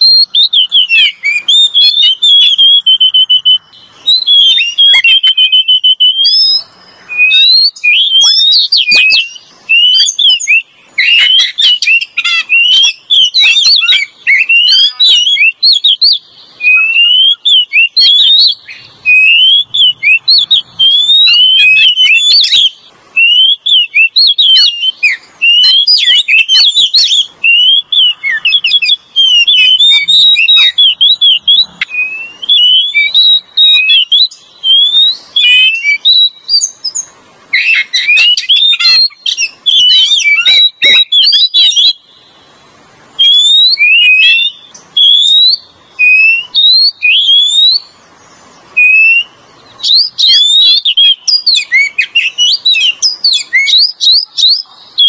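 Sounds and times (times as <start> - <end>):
bird song whistles and chirps: 0.0 - 55.0.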